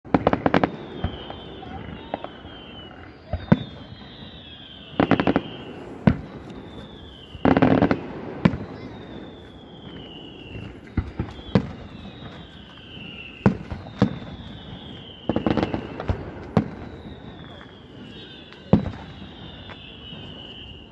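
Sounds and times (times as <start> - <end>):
fireworks crackling: 0.0 - 20.9
falling firework whistles: 0.1 - 20.9.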